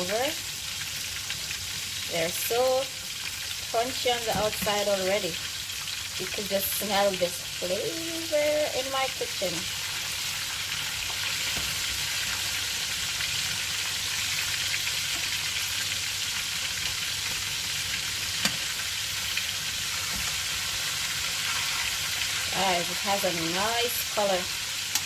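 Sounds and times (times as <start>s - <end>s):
chicken deep-frying in oil: 0.0s - 25.0s.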